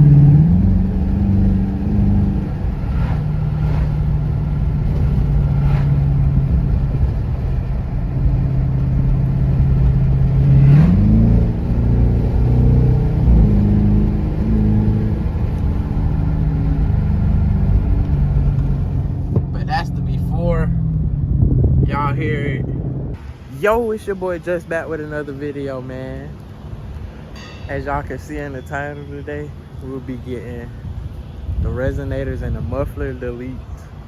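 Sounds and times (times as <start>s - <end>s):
car engine idling and revving: 0.0s - 31.6s.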